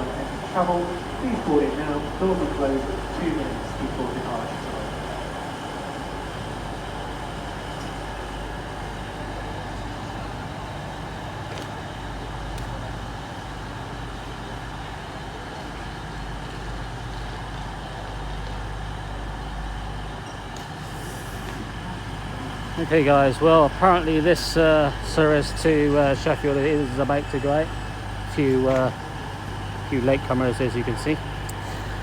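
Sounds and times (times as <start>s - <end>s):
electric train humming: 0.0s - 32.0s
station background noise: 0.0s - 32.0s.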